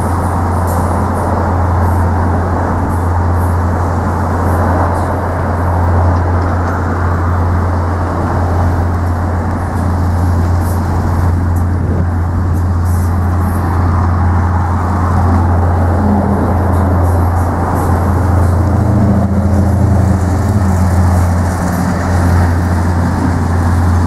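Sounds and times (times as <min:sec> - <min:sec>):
car road and engine rumble: 0:00.0 - 0:24.0
constant low hum: 0:00.0 - 0:24.0.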